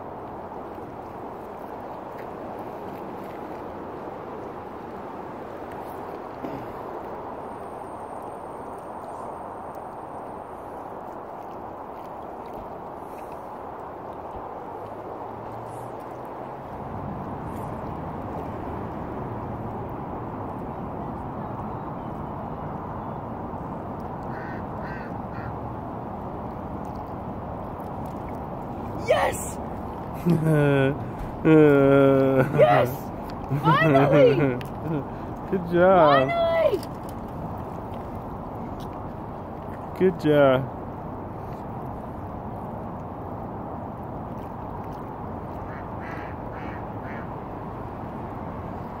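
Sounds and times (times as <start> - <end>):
outdoor background noise by water: 0.0 - 49.0.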